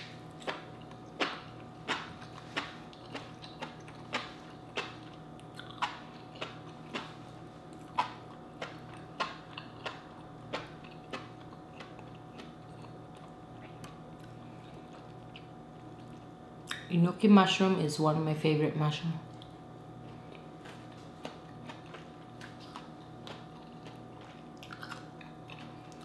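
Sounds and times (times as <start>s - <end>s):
chewing vegetables: 0.1s - 16.9s, 19.3s - 26.0s.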